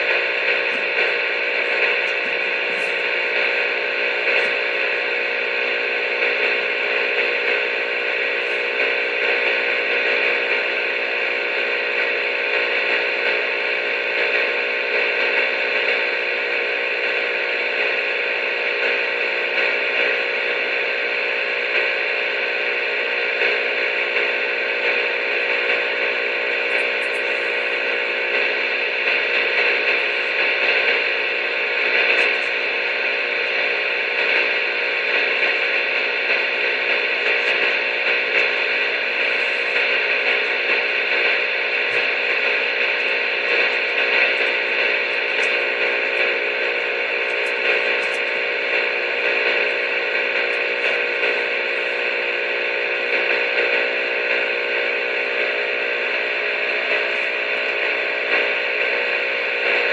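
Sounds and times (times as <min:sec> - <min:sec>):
steady hiss: 0:00.0 - 0:16.4, 0:21.9 - 0:59.9
faint steady tones: 0:00.0 - 0:59.9.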